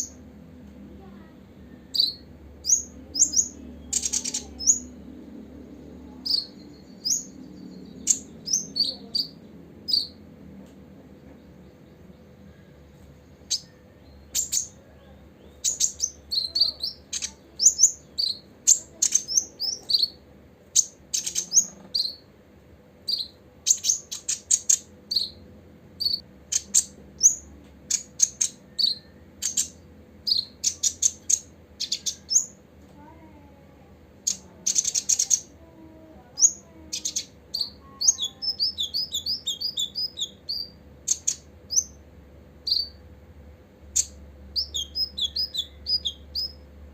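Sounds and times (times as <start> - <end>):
bird singing high chirps: 1.0 - 5.0, 6.0 - 10.2, 11.4 - 22.3, 23.0 - 25.4, 26.0 - 32.6, 34.2 - 35.6, 36.2 - 42.0, 42.6 - 43.0, 44.0 - 46.7.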